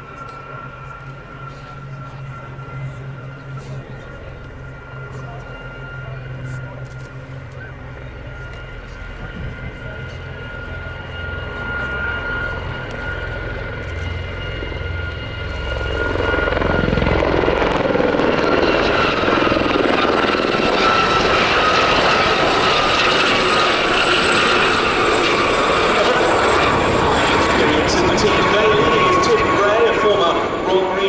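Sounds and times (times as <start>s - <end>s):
helicopter rotor beat and whine: 0.0s - 31.0s.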